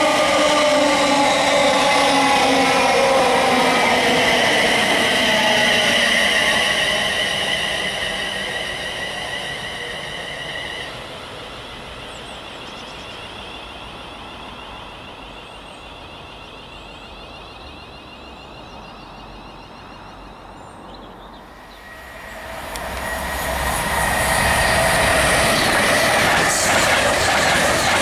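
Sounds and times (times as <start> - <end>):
train approaching: 0.0 - 28.0
train whining: 0.0 - 28.0.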